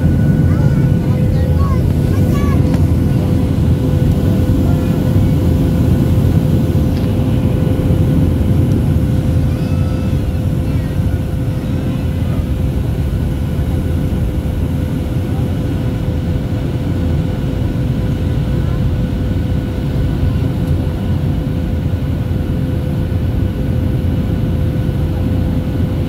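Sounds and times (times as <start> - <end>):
airplane cabin engine drone: 0.0 - 26.0
steady cabin hum: 0.0 - 26.0.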